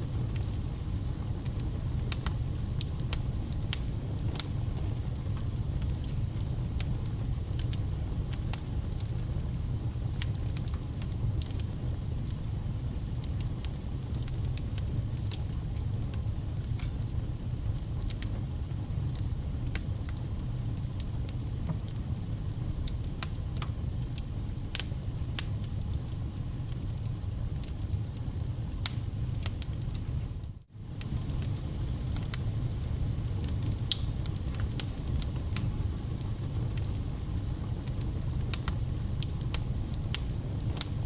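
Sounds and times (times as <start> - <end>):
wood fire rumbling: 0.0 - 41.0
firewood crackling and popping: 0.1 - 41.0.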